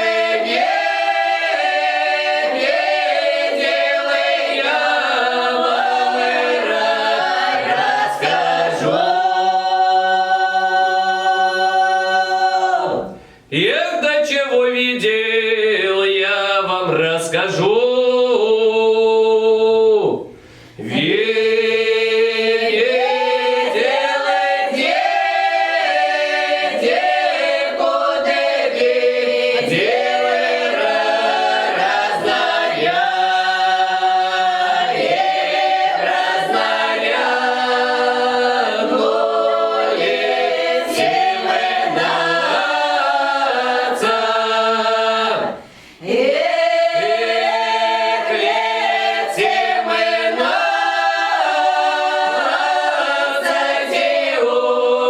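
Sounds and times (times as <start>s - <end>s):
folk song sung a cappella: 0.0s - 55.0s.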